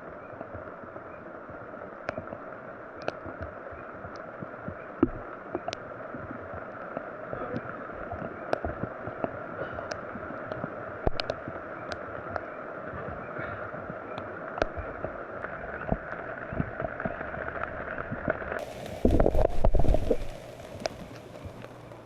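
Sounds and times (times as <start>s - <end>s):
low rumble on microphone: 0.0s - 22.0s
rain pattering: 0.0s - 22.0s.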